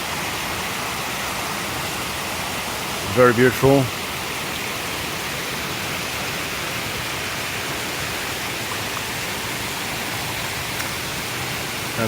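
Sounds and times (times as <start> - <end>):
waterfall roar: 0.0 - 12.0.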